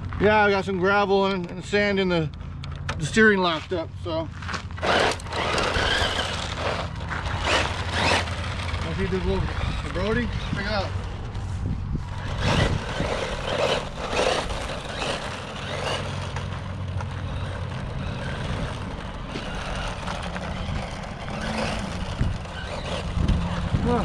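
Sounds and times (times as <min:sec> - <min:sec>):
tyres scrabbling on gravel: 0:03.0 - 0:24.0.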